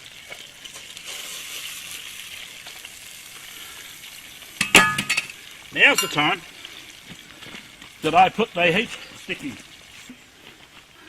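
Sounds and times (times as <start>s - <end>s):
roast sizzling in an oven: 0.0s - 11.0s.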